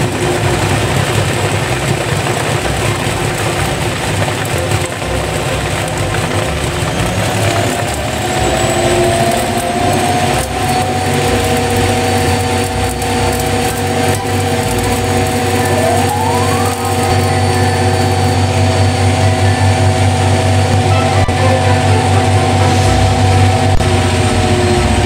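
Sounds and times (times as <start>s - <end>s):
rising whine: 0.0s - 25.0s
washing machine spinning: 0.0s - 25.0s.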